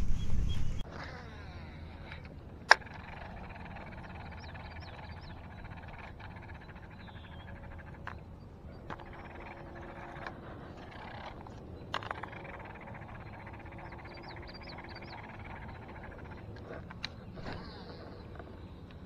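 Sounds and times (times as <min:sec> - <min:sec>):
frogs trilling: 0:00.8 - 0:19.0.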